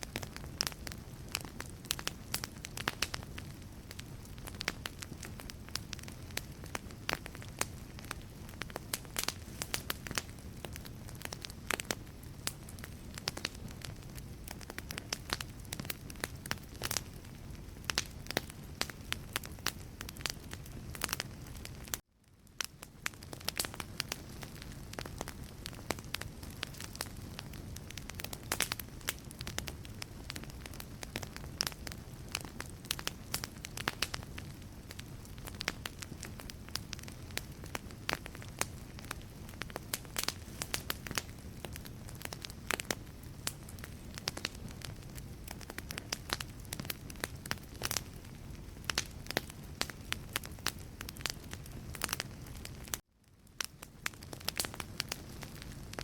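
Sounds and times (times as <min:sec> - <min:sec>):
flames rumbling: 0:00.0 - 0:56.0
logs crackling and popping: 0:00.0 - 0:56.0.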